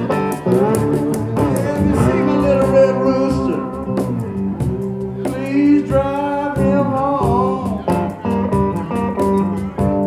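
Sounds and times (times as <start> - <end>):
electric guitar blues lead: 0.0 - 10.0
hand-struck cajon beat: 0.0 - 10.0.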